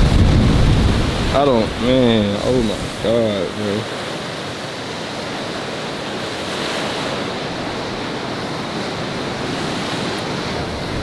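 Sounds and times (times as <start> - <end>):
ocean surf breaking: 0.0 - 11.0
wind: 0.0 - 11.0.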